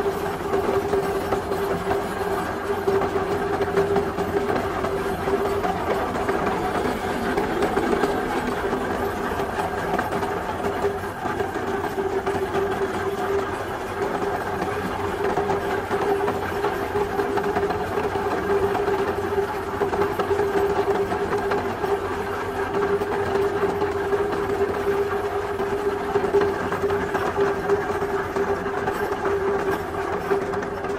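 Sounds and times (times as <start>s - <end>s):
heavy machinery running: 0.0s - 30.9s.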